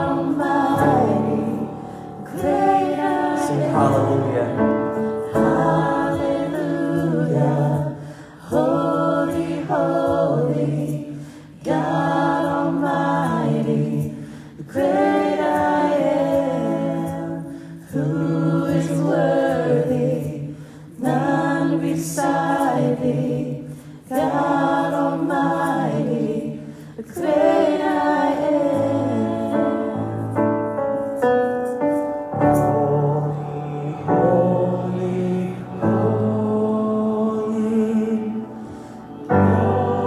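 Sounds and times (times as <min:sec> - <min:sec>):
group singing worship chorus: 0:00.0 - 0:30.5, 0:32.5 - 0:40.0.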